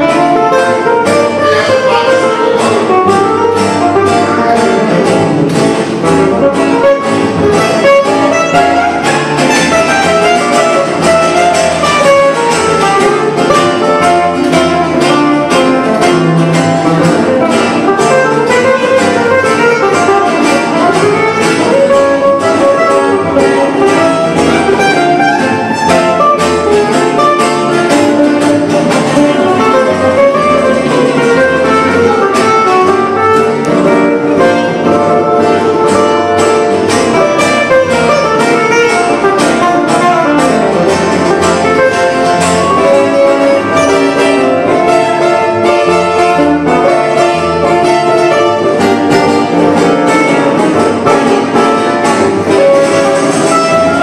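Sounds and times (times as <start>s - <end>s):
acoustic guitars playing: 0.0s - 54.0s
plucked double bass: 0.0s - 54.0s.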